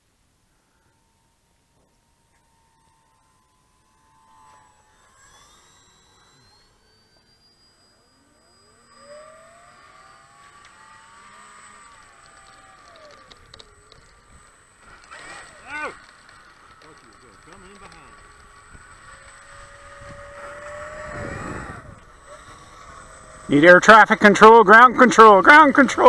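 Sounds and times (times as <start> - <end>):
model airplane motor whine: 0.0 - 26.0.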